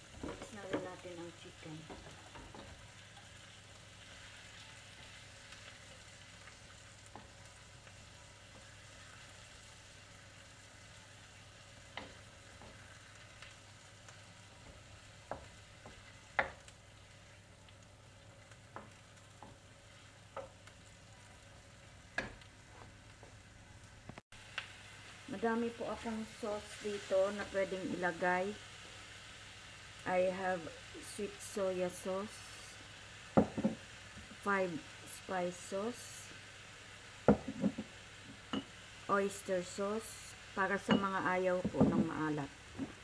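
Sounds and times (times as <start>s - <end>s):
food sizzling in oil: 0.0s - 43.0s.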